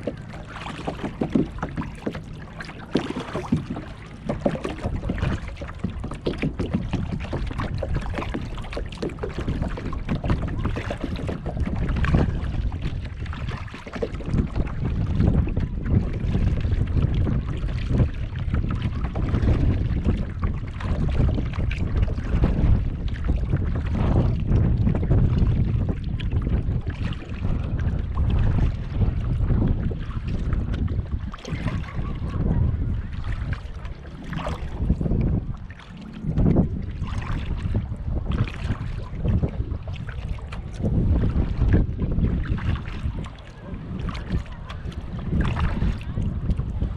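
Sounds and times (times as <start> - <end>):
paddle strokes splashing: 0.0 - 46.9
water washing against hull: 0.0 - 46.9
wind rumbling on microphone: 0.0 - 46.9.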